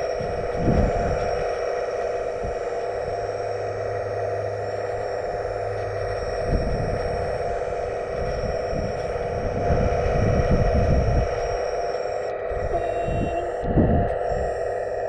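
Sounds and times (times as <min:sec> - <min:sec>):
model machine whine: 0:00.0 - 0:15.0.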